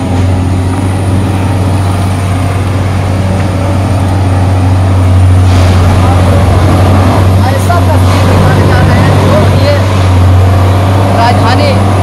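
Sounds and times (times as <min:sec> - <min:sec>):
idling engines in traffic: 0:00.0 - 0:12.0
street noise: 0:00.0 - 0:12.0.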